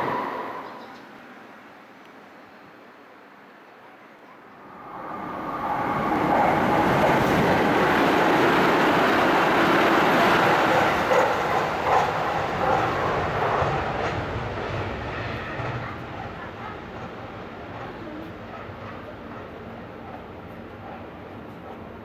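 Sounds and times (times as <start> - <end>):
electric train passing at speed: 0.0 - 22.0.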